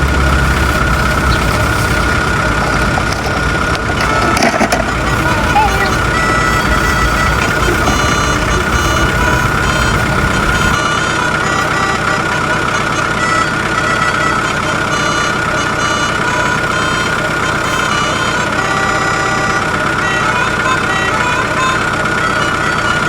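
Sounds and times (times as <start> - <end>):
toy engine-like hum: 0.0 - 23.0.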